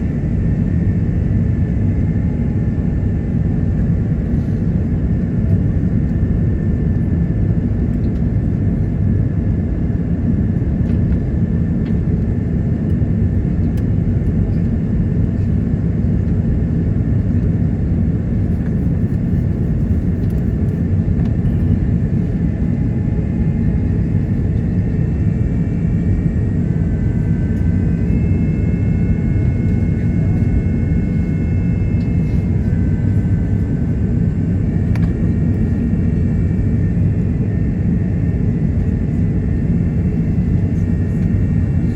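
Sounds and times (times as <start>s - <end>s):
aircraft engine and airflow rumble: 0.0s - 41.9s.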